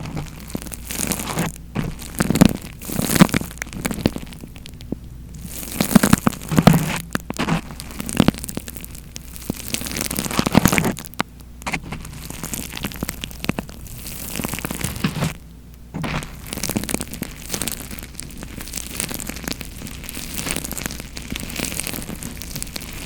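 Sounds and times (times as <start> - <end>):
crackly rubbing and crinkling: 0.0 - 23.0.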